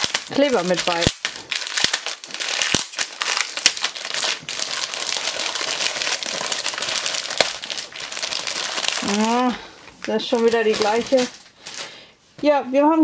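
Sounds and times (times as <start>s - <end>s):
plastic foil bag crinkling: 0.0s - 12.2s.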